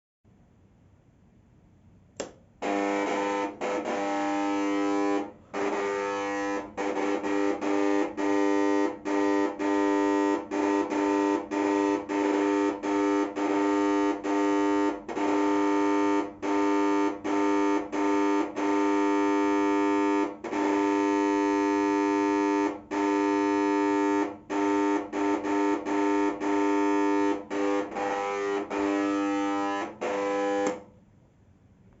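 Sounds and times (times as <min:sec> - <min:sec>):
fluorescent tube ballast buzzing: 0:02.2 - 0:30.8.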